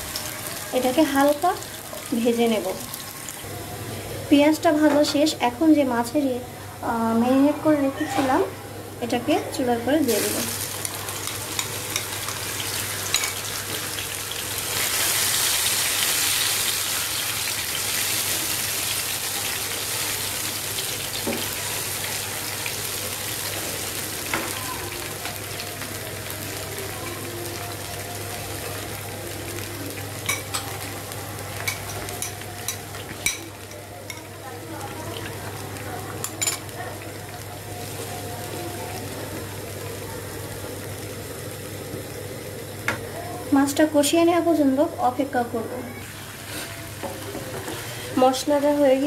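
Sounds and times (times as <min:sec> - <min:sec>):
fish sizzling in hot oil: 0:00.0 - 0:03.5, 0:10.0 - 0:49.0.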